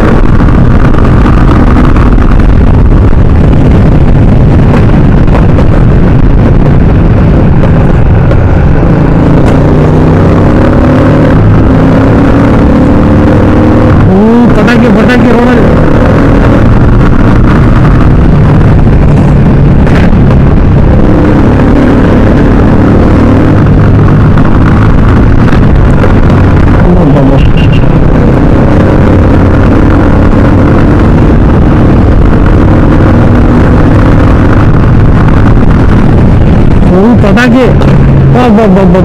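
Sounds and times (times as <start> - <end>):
motorcycle engines droning: 0.0 - 39.0.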